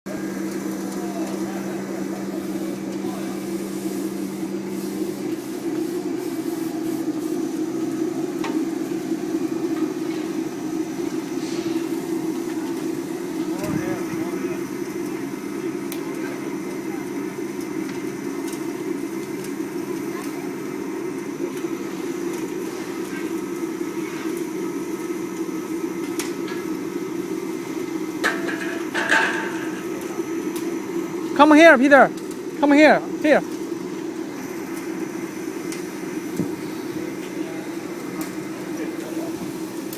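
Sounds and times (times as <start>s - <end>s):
burner blower and flame drone: 0.1s - 39.9s.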